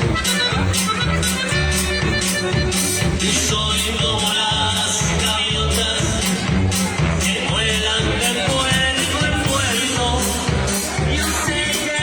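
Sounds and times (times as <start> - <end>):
live band instrumental music: 0.0 - 12.0.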